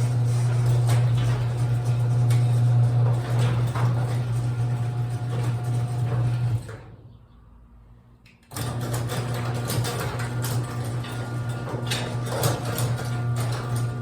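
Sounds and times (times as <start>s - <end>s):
garage door opener humming: 0.0s - 7.2s, 8.3s - 14.0s.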